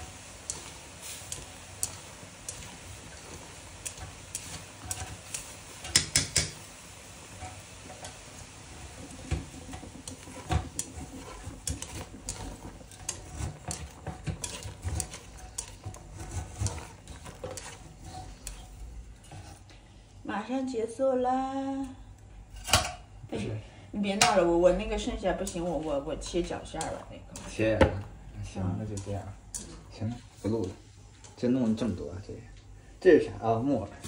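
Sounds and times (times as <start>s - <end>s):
food sizzling in oil: 0.0s - 19.7s, 24.0s - 32.0s.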